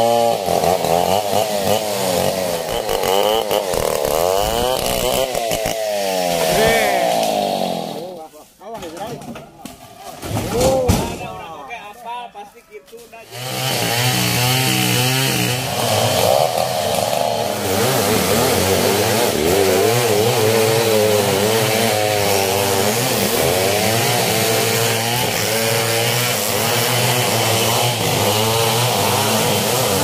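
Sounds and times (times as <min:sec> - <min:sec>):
chainsaw revving: 0:00.0 - 0:08.3, 0:13.2 - 0:30.0.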